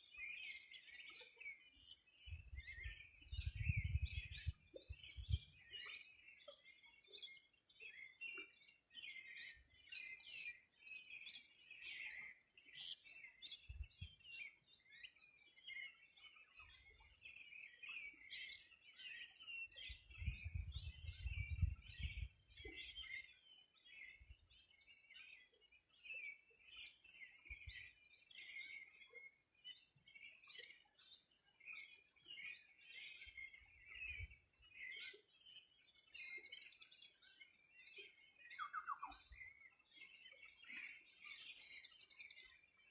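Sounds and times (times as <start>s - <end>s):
many birds chirping and singing: 0.0s - 42.9s.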